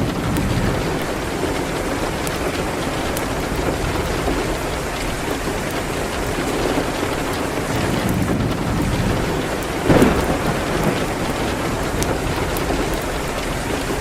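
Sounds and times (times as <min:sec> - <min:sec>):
distant thunder rumble: 0:00.0 - 0:14.0
steady rain: 0:00.0 - 0:14.0.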